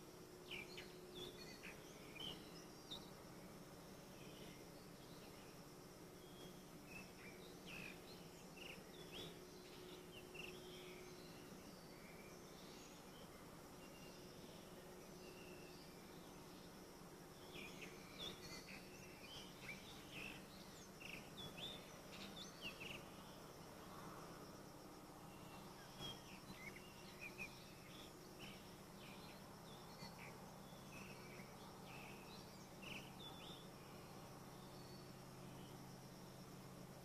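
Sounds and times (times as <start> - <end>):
small birds chirping: 0.0 - 24.0, 25.1 - 35.9
high insect hum: 0.0 - 37.0
low steady hum: 0.0 - 37.0.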